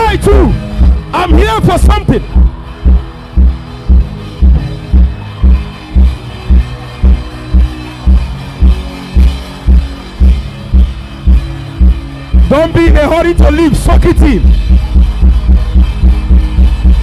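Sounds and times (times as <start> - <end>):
deep steady beat: 0.0 - 17.0
sustained keyboard chords: 0.0 - 17.0.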